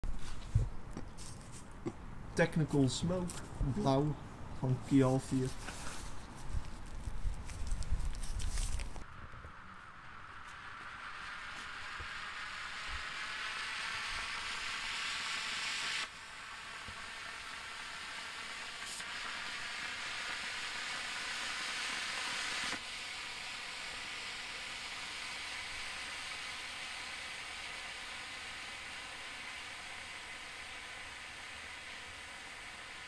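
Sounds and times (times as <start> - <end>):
smoke firework hissing: 2.6 - 33.0.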